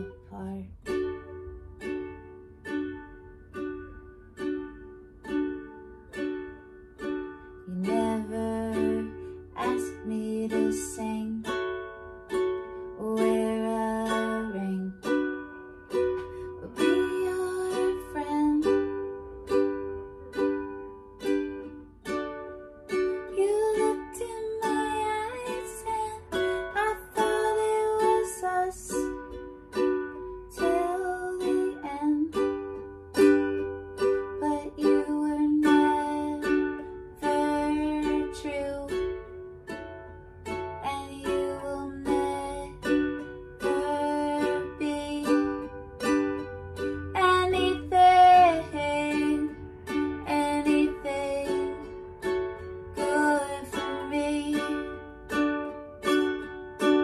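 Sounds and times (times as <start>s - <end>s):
ukulele strumming: 0.0s - 57.0s.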